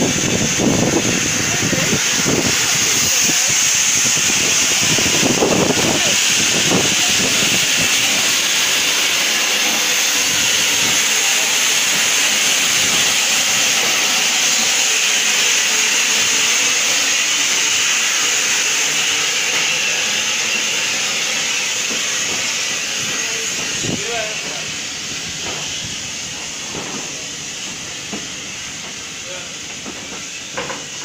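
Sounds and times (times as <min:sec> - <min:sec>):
steam locomotive hissing steam: 0:00.0 - 0:31.0.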